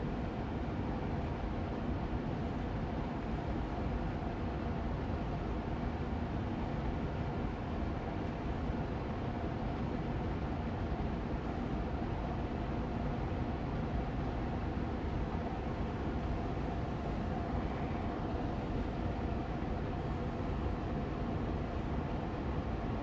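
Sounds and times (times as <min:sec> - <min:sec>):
air purifier fan running: 0:00.0 - 0:23.0
faint hum: 0:00.0 - 0:23.0.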